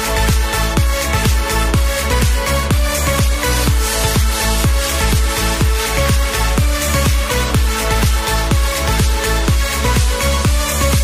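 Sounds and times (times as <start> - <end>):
electronic dance music: 0.0 - 11.0
steady kick drum beat: 0.0 - 11.0.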